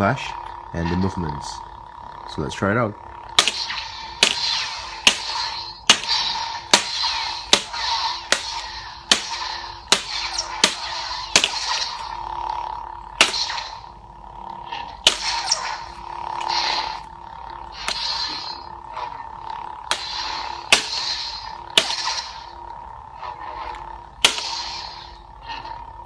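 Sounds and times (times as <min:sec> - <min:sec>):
electronic saber hum: 0:00.0 - 0:26.0
saber blades clashing: 0:00.0 - 0:26.0.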